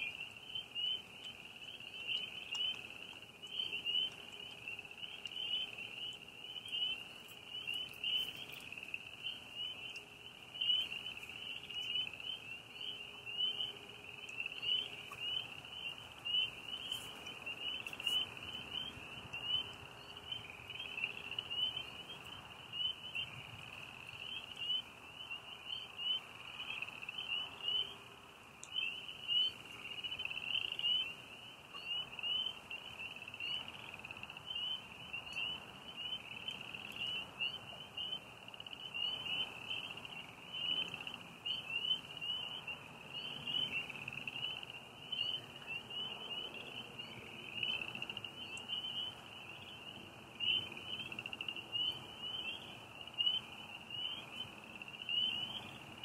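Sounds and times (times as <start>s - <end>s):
crickets chirping: 0.0s - 56.0s
frogs chirping: 0.0s - 56.0s.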